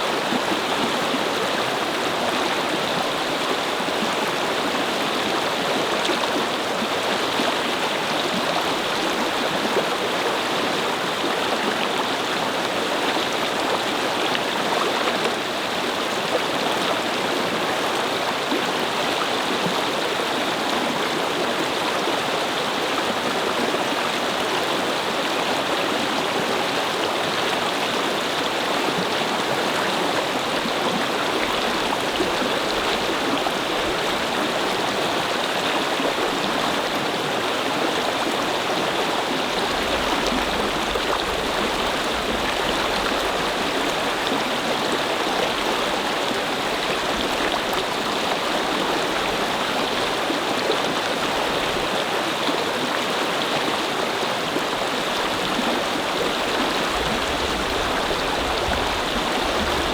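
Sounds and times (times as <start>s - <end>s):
brook water flowing: 0.0s - 59.9s.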